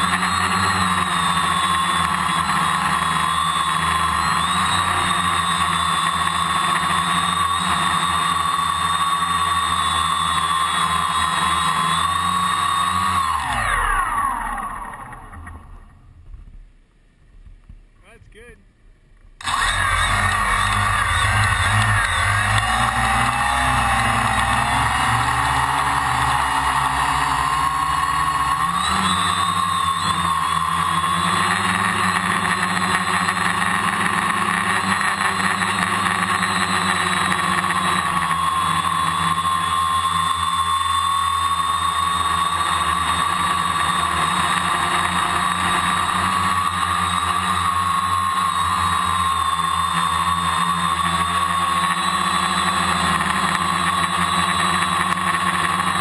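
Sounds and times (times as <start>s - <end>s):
drone motors and propellers: 0.0s - 17.9s, 19.2s - 56.0s.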